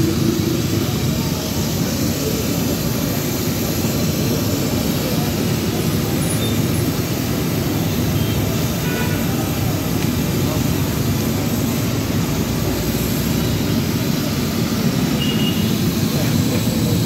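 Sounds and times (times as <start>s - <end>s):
deep fryer roaring: 0.0s - 17.0s.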